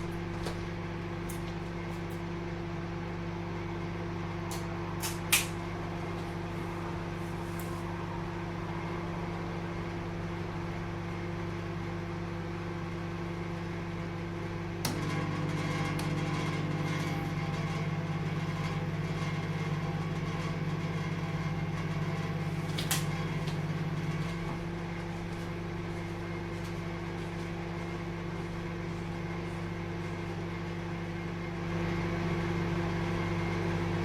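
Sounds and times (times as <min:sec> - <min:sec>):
microwave oven humming: 0:00.0 - 0:34.0.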